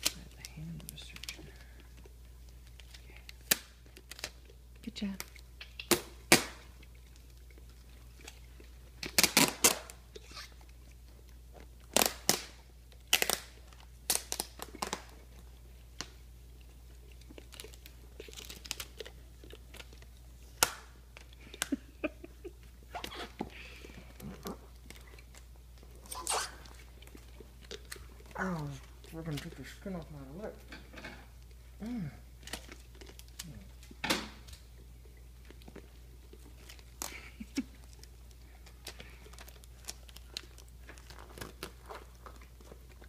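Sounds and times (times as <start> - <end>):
dog licking and chewing: 0.0 - 43.0.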